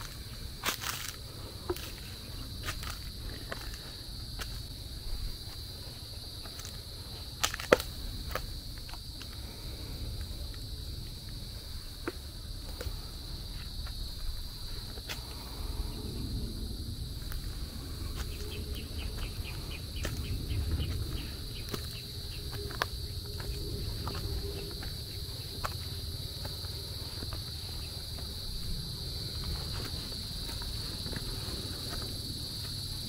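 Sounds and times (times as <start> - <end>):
footsteps crunching on a trail: 0.0 - 33.0
insects chorus: 0.0 - 33.0.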